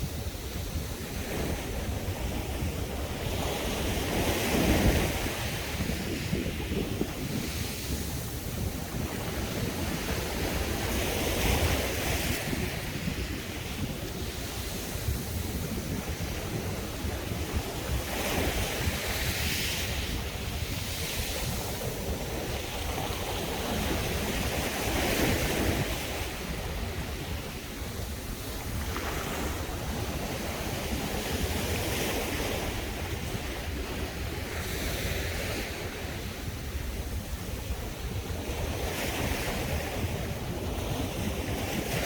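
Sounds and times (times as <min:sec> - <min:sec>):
sea waves breaking on beach: 0:00.0 - 0:42.0
wind rumble on microphone: 0:00.0 - 0:42.0.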